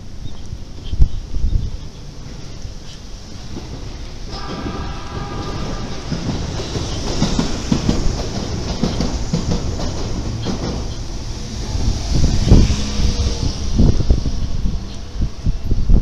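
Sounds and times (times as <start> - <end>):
steady whining tones: 0.0 - 16.0
train wheels clattering over rail joints: 0.4 - 16.0.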